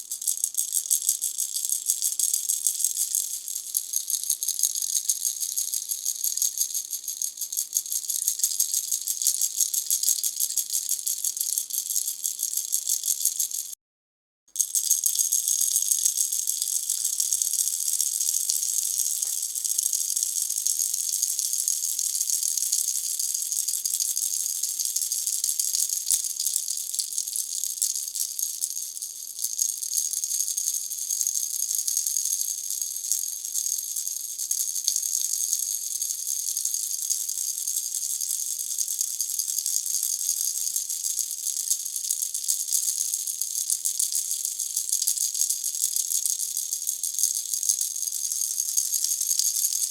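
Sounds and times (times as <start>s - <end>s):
baby's toy rattle shaken: 0.0s - 13.8s, 14.5s - 49.9s.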